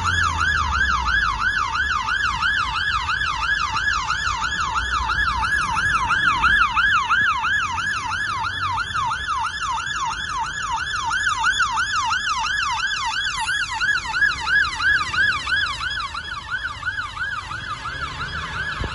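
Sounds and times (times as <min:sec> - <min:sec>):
faint traffic rumble: 0:00.0 - 0:18.9
fire engine siren yelping: 0:00.0 - 0:18.9.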